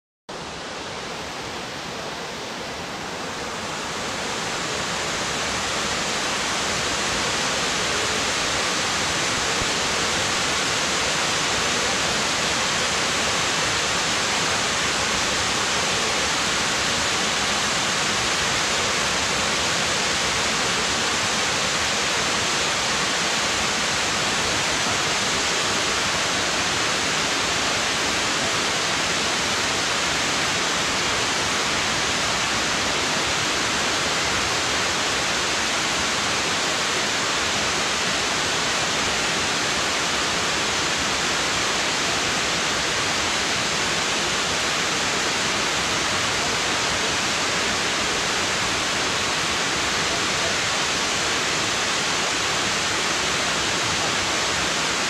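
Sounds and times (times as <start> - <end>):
waterfall rushing over rocks: 0.3 - 55.0.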